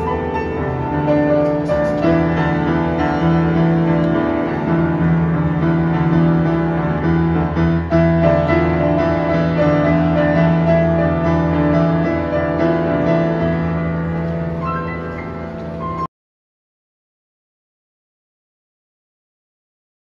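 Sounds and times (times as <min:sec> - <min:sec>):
upright piano chords: 0:00.0 - 0:16.1.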